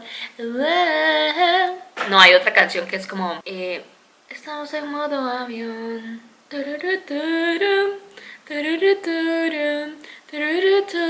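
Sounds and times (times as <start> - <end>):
woman singing unaccompanied: 0.0 - 2.1, 3.5 - 11.0.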